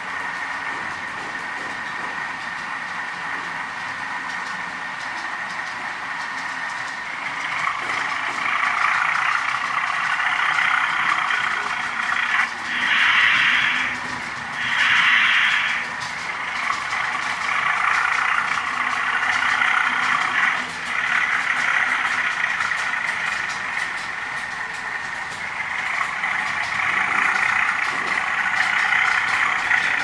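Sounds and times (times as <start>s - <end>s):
model locomotive running on track: 0.0s - 30.0s.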